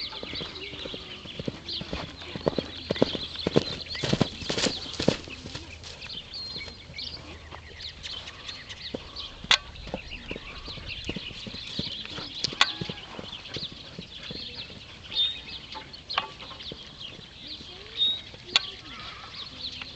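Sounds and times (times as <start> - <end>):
horse hoofbeats on turf: 0.0 - 19.2
birds chirping: 0.0 - 19.9.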